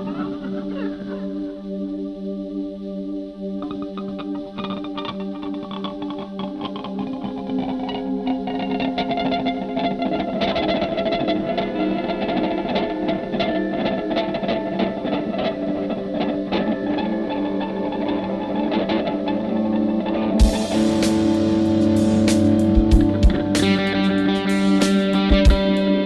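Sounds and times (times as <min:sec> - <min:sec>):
electric guitar with effects: 0:00.0 - 0:26.0.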